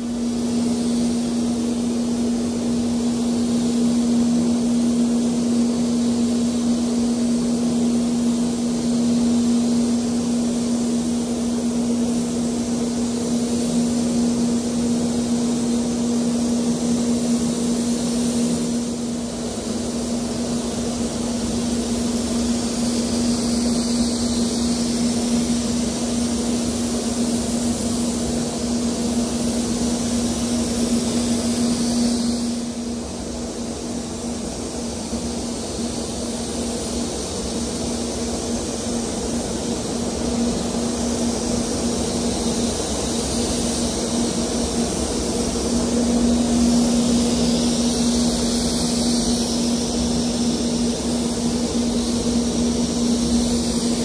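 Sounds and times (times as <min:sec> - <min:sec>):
air extraction hum: 0:00.0 - 0:54.0
spray gun hissing: 0:00.0 - 0:54.0.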